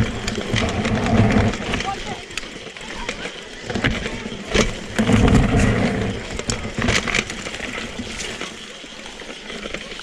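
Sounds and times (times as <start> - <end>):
bike clicks and knocks: 0.0 - 10.0
tyres crunching over gravel: 0.0 - 10.0.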